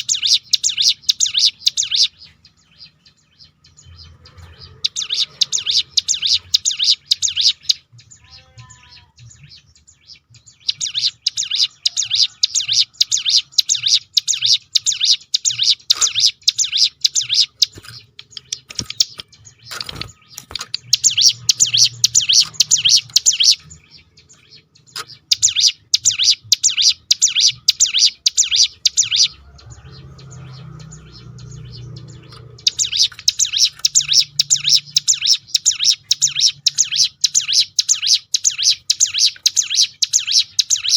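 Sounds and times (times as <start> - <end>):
bird singing rattling runs: 0.0 - 40.9.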